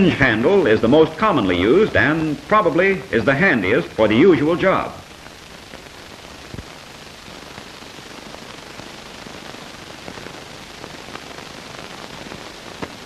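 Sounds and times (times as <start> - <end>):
old film soundtrack hiss: 0.0 - 13.0.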